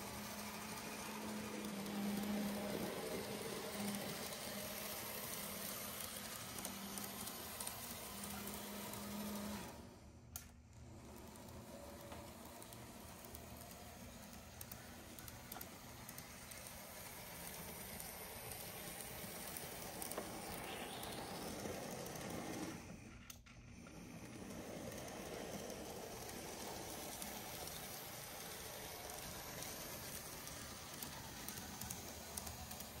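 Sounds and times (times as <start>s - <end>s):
model train motor whirring: 0.0s - 33.0s.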